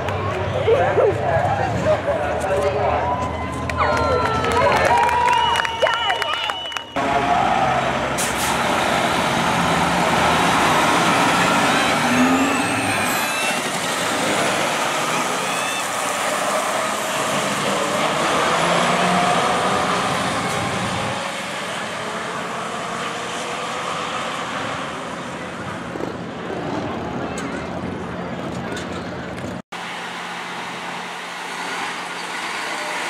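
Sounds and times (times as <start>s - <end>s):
diesel truck engines at full throttle: 0.0s - 33.0s.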